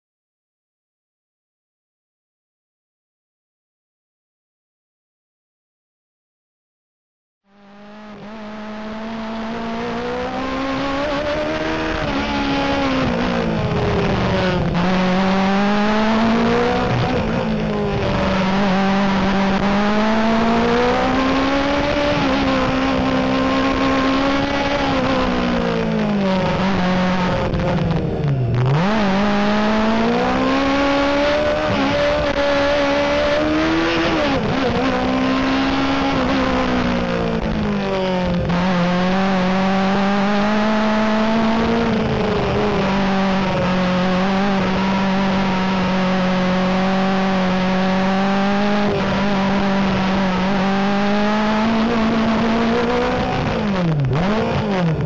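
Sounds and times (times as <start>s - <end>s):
race car engine revving: 7.5s - 55.0s.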